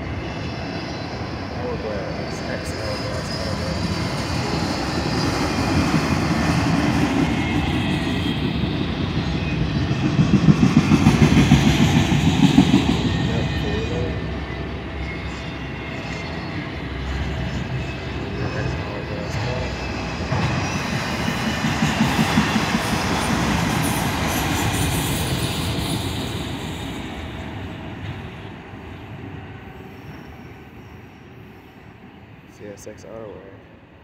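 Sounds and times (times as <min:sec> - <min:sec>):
freight train wheels rumbling: 0:00.0 - 0:32.8.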